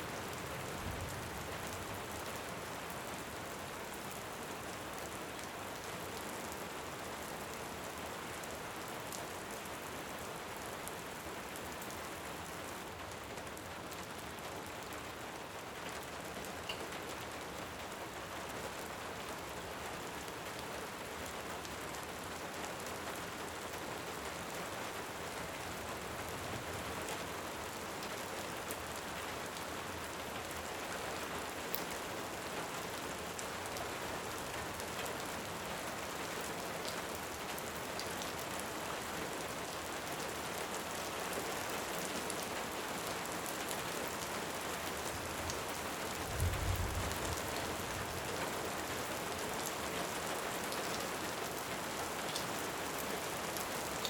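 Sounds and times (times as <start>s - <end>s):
rain falling on surface: 0.0s - 54.0s.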